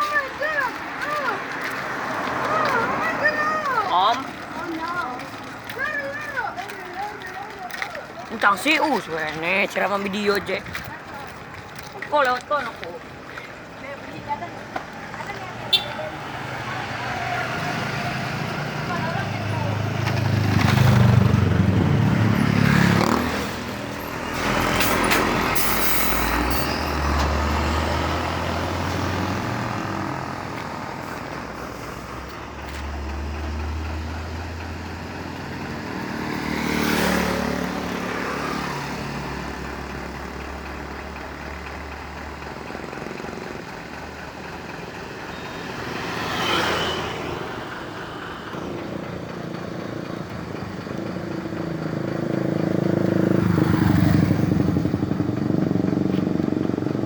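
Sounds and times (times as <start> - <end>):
trucks passing close by: 0.0 - 57.0
low engine rumble: 9.0 - 45.9, 47.2 - 57.0.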